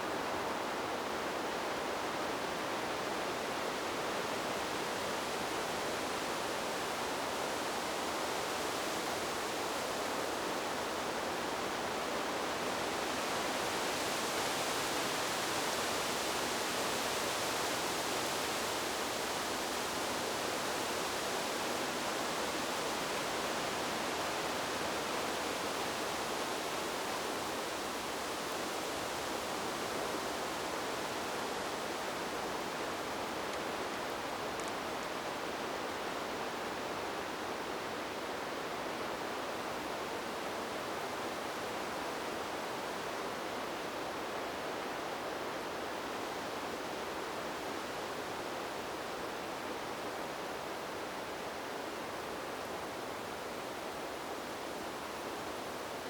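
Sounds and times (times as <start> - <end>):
wind blowing through trees: 0.0 - 56.0.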